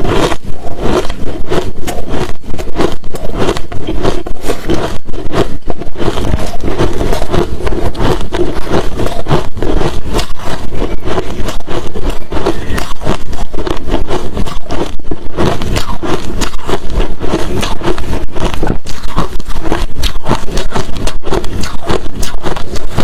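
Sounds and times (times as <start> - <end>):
chewing crushed ice: 0.0 - 23.0.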